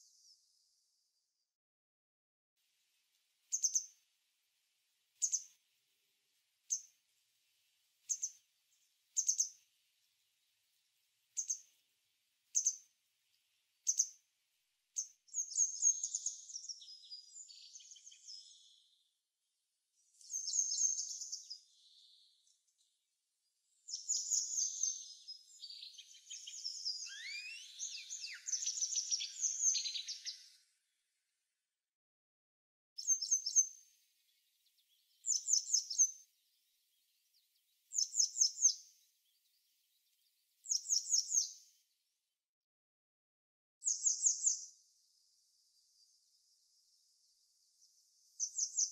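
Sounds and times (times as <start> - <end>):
songbirds chirping and trilling: 3.4 - 31.2, 33.0 - 42.2, 43.8 - 48.9.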